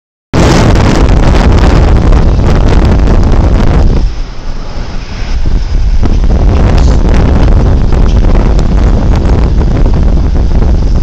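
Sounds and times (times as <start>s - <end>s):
construction machinery rumble: 0.4s - 11.0s
wind buffeting microphone: 0.4s - 11.0s.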